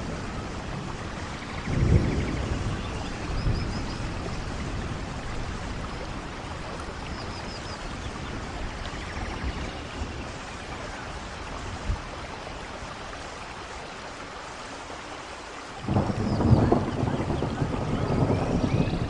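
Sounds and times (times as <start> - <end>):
rain falling in forest: 0.0 - 19.0.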